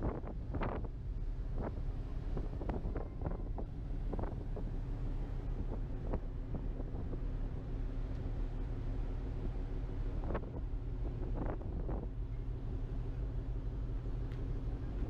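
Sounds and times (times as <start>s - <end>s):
faint ship hum: 0.0s - 15.0s
wind buffeting microphone: 0.0s - 15.0s.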